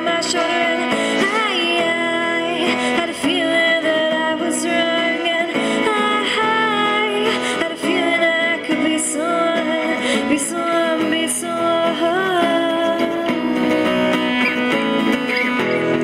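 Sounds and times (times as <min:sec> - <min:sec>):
woman singing into microphone: 0:00.0 - 0:14.2
strummed acoustic guitar: 0:00.0 - 0:16.0.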